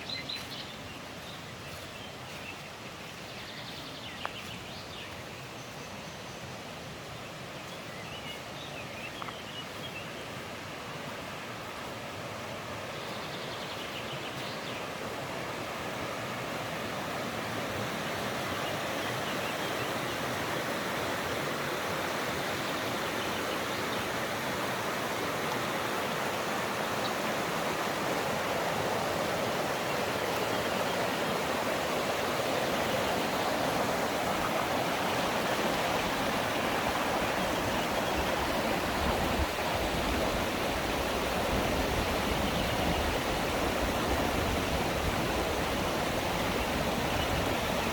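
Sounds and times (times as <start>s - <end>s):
mountain stream rushing: 0.0s - 47.9s.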